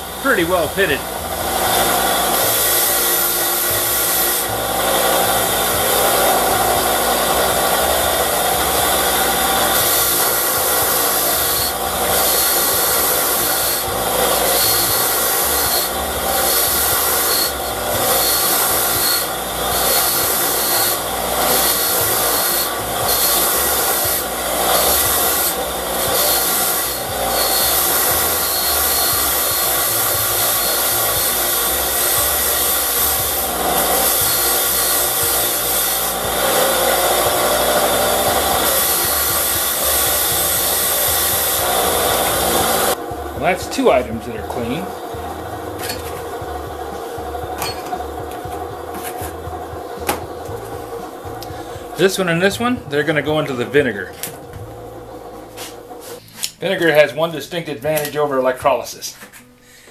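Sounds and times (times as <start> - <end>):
grinder abrasive scrubbing on steel: 0.0 - 52.7
bench grinder whine: 0.0 - 58.1.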